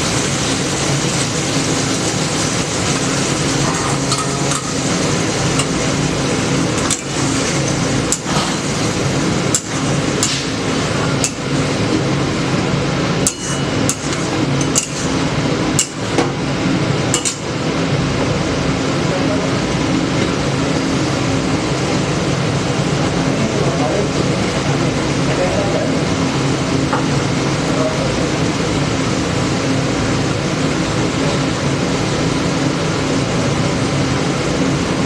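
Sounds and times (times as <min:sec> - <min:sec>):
steady loud hiss: 0:00.0 - 0:35.0.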